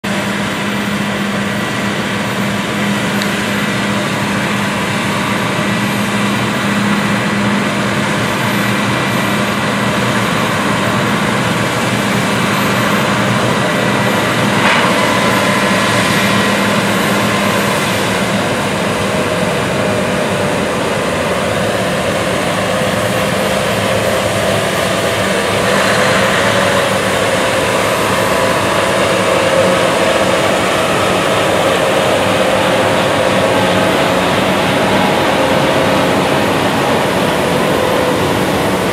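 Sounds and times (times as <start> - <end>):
harvester and tractor engines: 0.0 - 38.9
higher wavering hum: 0.1 - 38.9.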